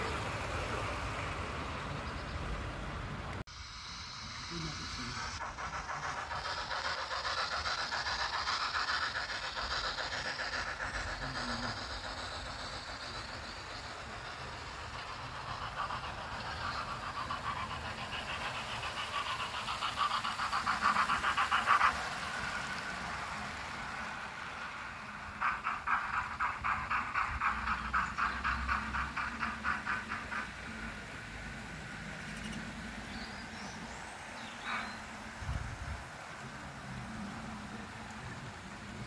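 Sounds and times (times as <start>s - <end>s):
model trains rattling on track: 0.0s - 39.0s.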